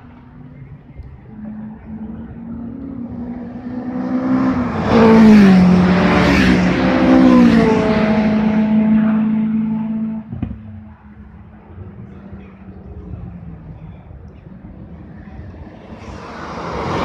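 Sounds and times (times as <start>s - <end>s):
cars passing at speed: 1.2s - 17.0s.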